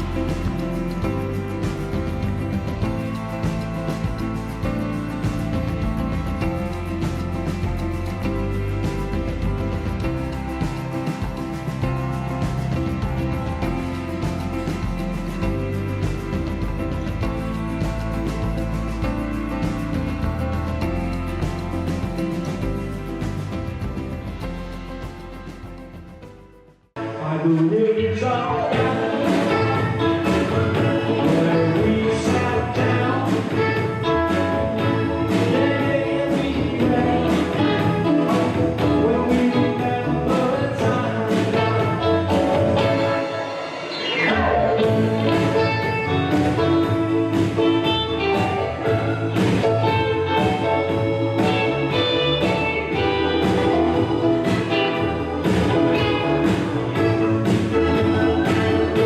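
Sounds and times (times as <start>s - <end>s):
music with singing over a beat: 0.0s - 26.2s, 27.0s - 59.0s.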